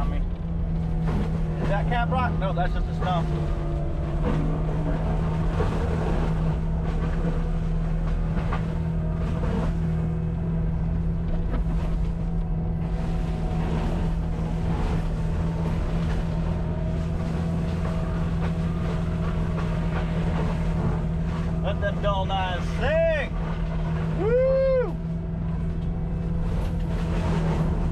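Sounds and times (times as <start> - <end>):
track loader running: 0.0 - 27.9.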